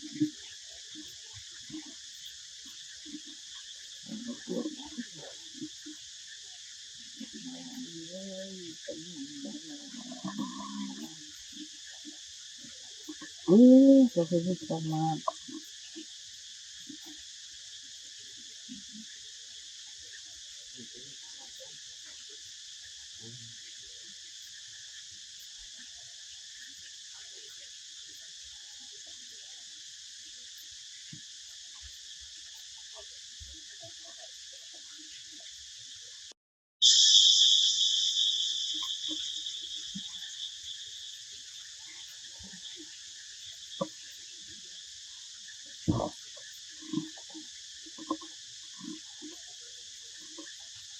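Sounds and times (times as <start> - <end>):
shrill insect chorus: 0.0 - 50.9.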